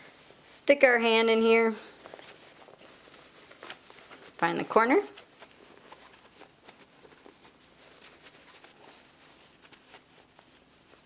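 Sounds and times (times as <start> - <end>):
fabric rustling: 0.0 - 11.0.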